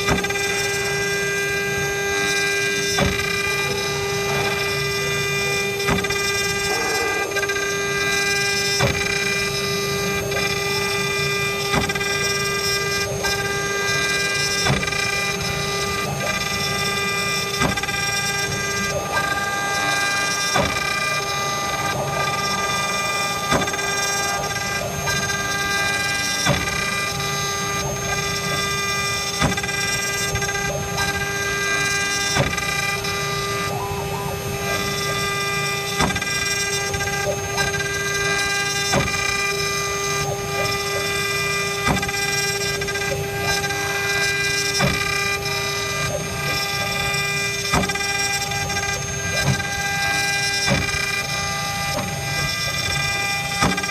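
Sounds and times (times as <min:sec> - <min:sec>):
wood router spindle whining: 0:00.0 - 0:53.9.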